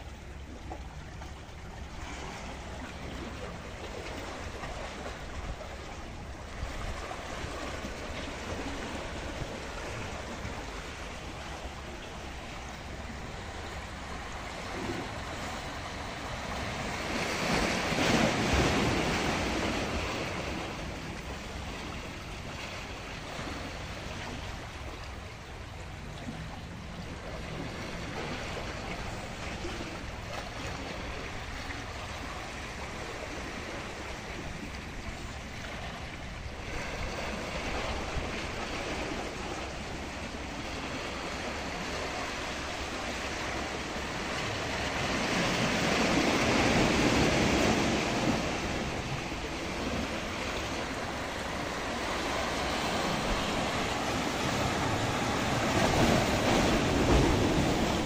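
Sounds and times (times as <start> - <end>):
wind on microphone: 1.6 - 58.0
waves washing against rocks: 1.8 - 58.0.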